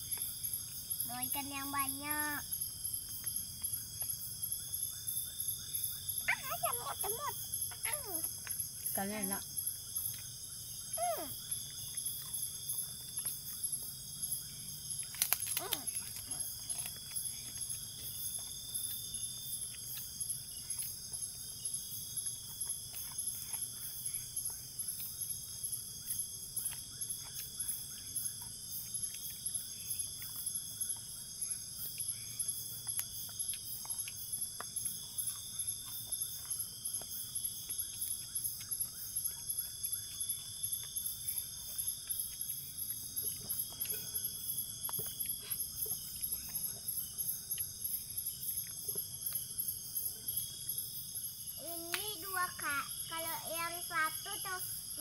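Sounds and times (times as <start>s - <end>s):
forest insects chorus: 0.0s - 55.0s.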